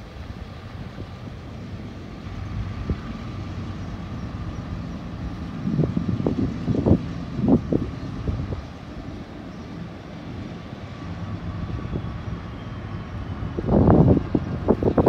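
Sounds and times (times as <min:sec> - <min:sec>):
diesel locomotive rumbling: 0:00.0 - 0:15.0
wind buffeting microphone: 0:00.0 - 0:15.0.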